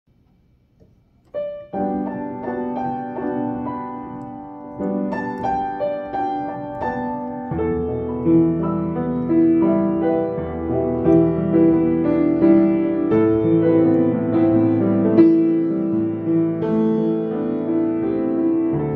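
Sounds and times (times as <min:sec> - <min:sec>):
solo piano melody: 0:00.7 - 0:18.9.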